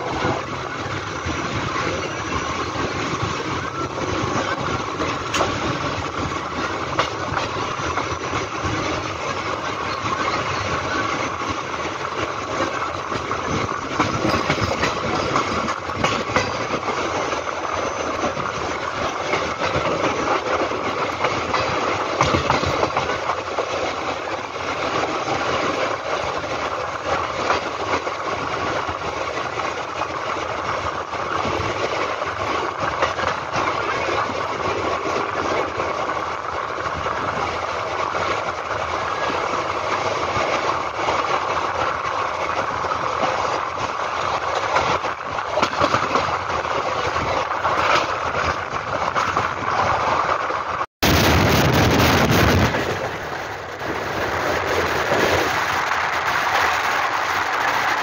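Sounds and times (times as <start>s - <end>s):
wheels clicking over track: 0.0s - 50.8s
train wheels rumbling on rails: 0.0s - 58.0s.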